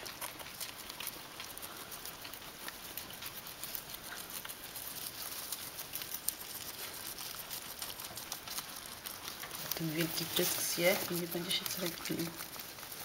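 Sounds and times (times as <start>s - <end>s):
guinea pigs chewing greens: 0.0s - 13.0s
rustling in hay: 0.0s - 13.0s.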